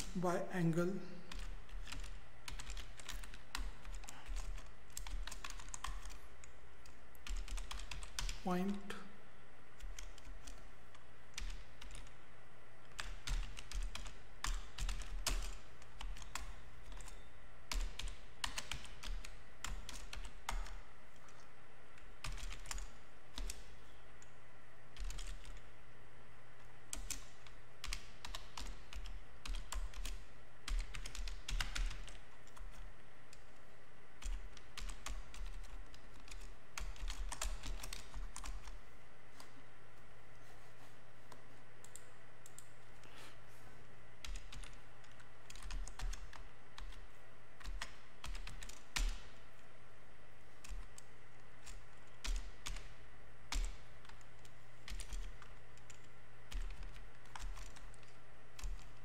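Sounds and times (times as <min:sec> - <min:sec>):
faint low hum: 0:00.0 - 0:59.0
keyboard typing: 0:01.3 - 0:08.5, 0:09.8 - 0:12.2, 0:12.8 - 0:25.7, 0:26.6 - 0:33.6, 0:34.2 - 0:39.6, 0:41.2 - 0:43.1, 0:44.2 - 0:49.4, 0:50.5 - 0:59.0.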